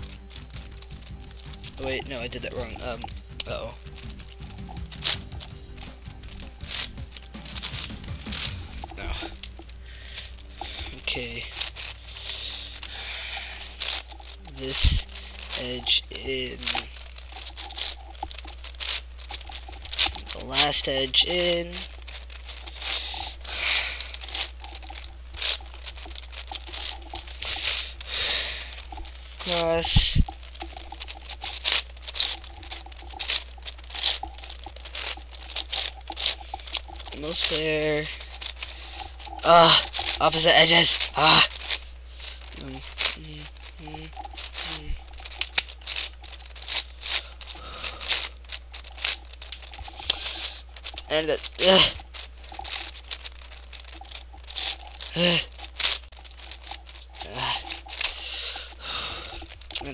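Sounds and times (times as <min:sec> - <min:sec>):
puzzle cube layers clicking: 0:00.0 - 0:59.9
steady low hum: 0:00.0 - 0:59.9.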